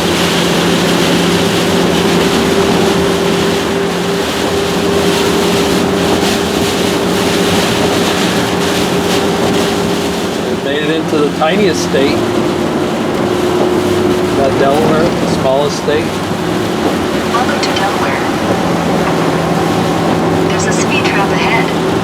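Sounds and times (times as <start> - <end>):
engine and road hum: 0.0 - 22.0
rain and wet tyres hissing: 0.0 - 22.0.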